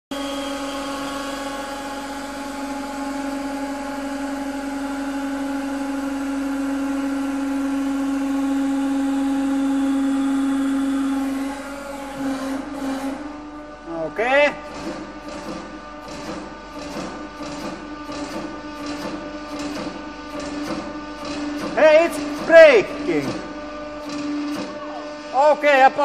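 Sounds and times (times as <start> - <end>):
hydraulic pump humming: 0.1 - 26.0.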